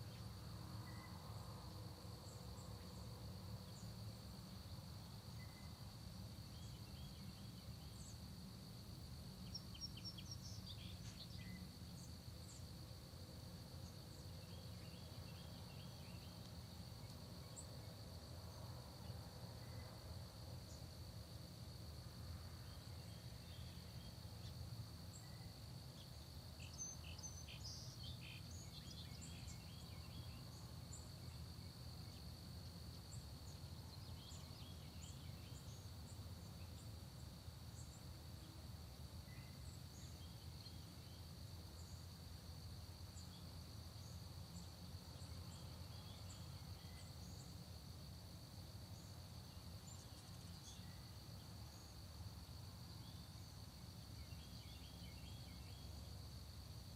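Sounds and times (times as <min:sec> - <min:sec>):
cricket chorus: 0:00.0 - 0:56.9.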